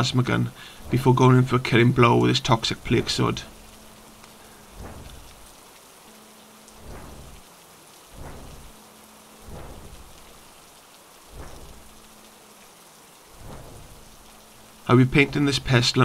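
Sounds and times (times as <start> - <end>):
soft low rumbles: 0.0 - 15.9
steady hiss: 0.0 - 16.0.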